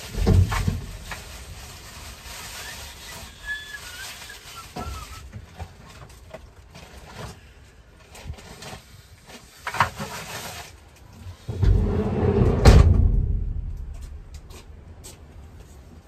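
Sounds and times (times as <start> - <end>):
handling knocks and rustles: 0.0 - 3.4, 4.3 - 16.0.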